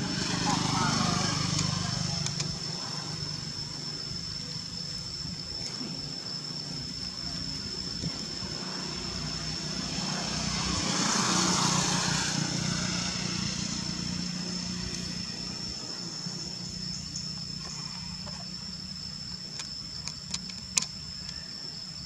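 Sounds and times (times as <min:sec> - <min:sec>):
low engine-like hum: 0:00.0 - 0:22.0.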